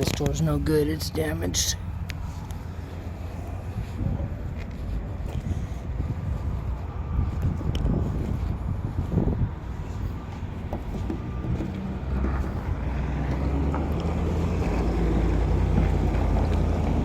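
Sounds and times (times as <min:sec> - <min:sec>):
vehicle engine humming: 0:00.0 - 0:17.0
wind noise on microphone: 0:01.8 - 0:17.0.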